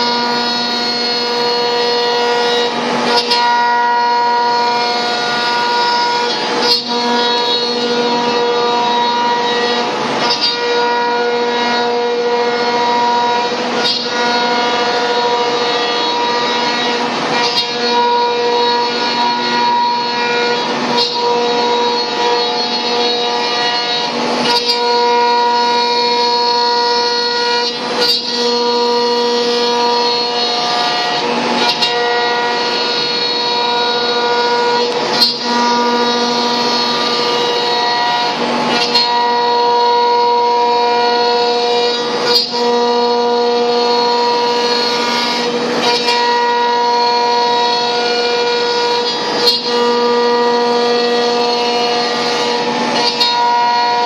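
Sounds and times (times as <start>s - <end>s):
cutter scraping: 0.0s - 54.0s
router spindle whining: 0.0s - 54.0s.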